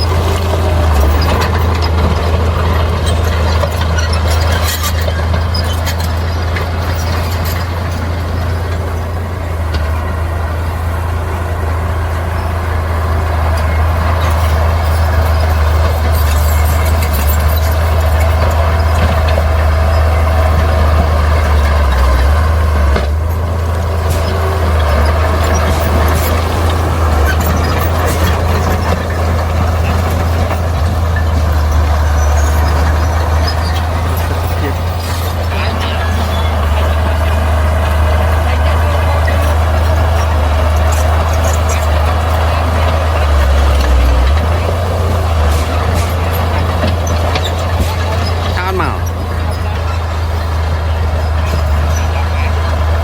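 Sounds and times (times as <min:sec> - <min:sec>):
clicks and clanks: 0:00.0 - 0:08.9, 0:13.6 - 0:52.6
deep diesel engine drone: 0:00.0 - 0:53.0.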